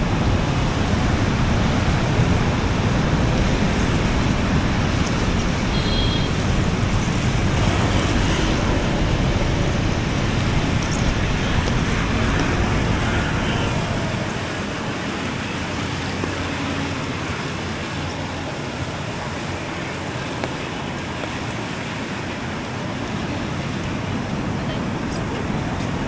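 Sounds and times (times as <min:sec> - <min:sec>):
heavy vehicle rumble: 0:00.0 - 0:26.0
road traffic passing: 0:00.0 - 0:26.0.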